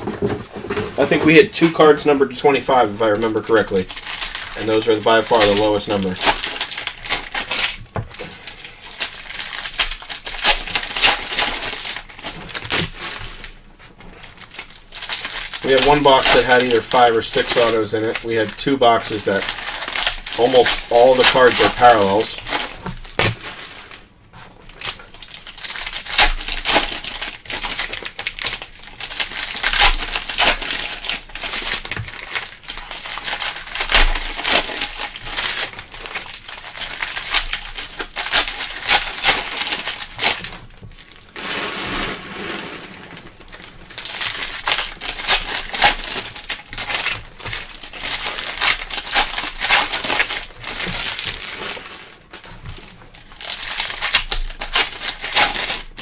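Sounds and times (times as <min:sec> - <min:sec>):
card wrappers crinkling and tearing: 0:00.0 - 0:56.0.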